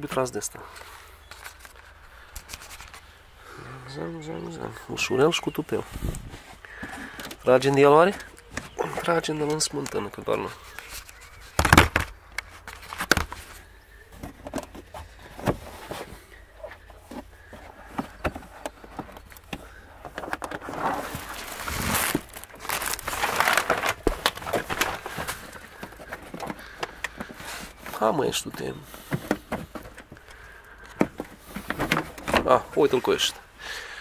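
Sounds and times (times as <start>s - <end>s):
car trim rustling and scraping: 5.9s - 33.4s.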